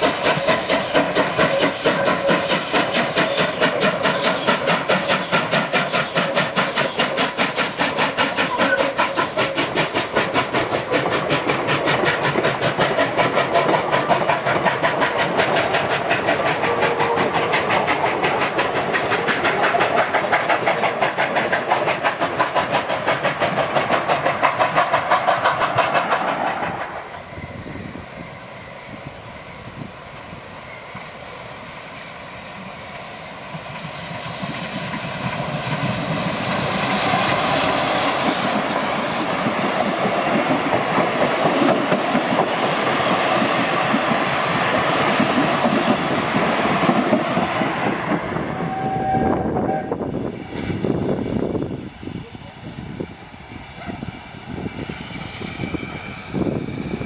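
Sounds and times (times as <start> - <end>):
steam locomotive chuffing: 0.0 - 57.0
train wheels on rails: 0.0 - 57.0.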